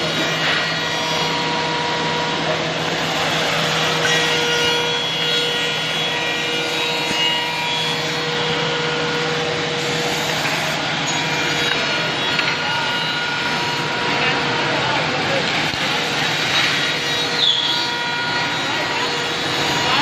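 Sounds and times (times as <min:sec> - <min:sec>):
cutters rasping wood: 0:00.0 - 0:20.0.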